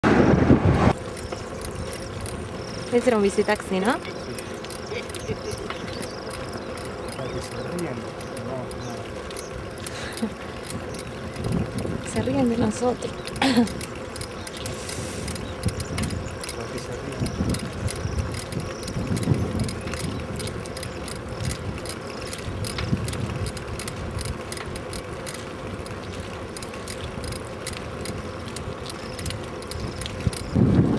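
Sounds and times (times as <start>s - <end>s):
low rumbles: 0.0s - 30.9s
bicycle rolling on paved road: 0.1s - 30.9s
bike mechanism clicking and rattling: 0.9s - 30.9s.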